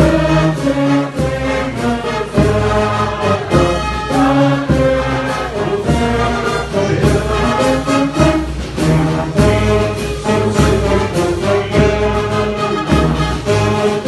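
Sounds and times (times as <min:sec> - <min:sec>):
brass band playing: 0:00.0 - 0:14.0.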